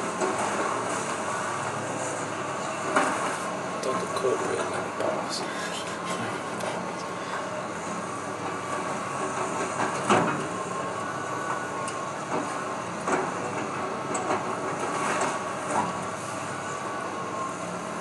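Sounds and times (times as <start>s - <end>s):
excavator rumble: 0.0s - 18.0s.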